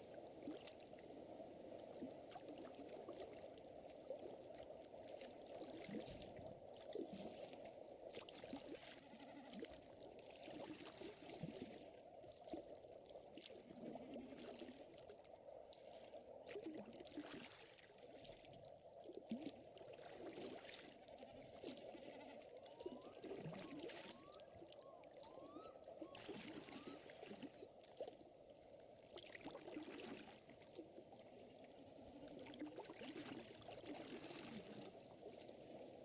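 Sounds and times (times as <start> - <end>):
water lapping gently: 0.0 - 36.0.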